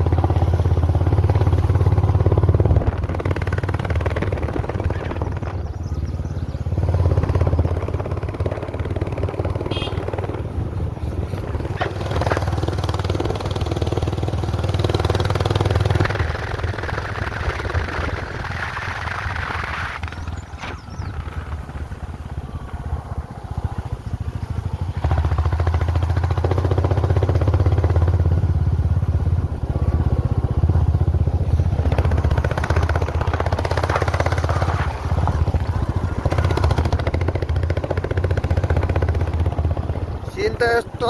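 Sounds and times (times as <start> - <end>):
vehicle engine pulsing rumble: 0.0 - 41.0.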